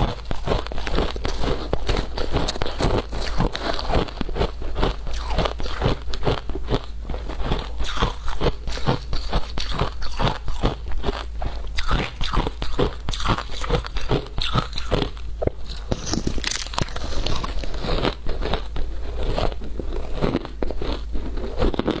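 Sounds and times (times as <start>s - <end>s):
shaved ice being chewed: 0.0s - 22.0s.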